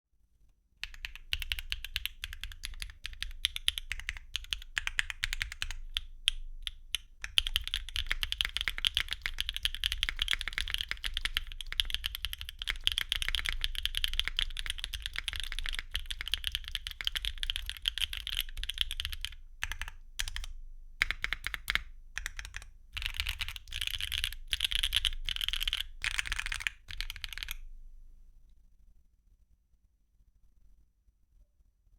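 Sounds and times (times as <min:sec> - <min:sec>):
typing on mechanical keyboard: 0:00.8 - 0:27.6.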